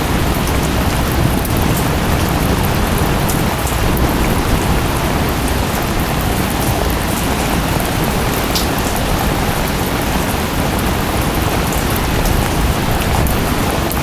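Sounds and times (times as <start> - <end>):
heavy rain: 0.0 - 14.0
waterfall rushing: 0.0 - 14.0.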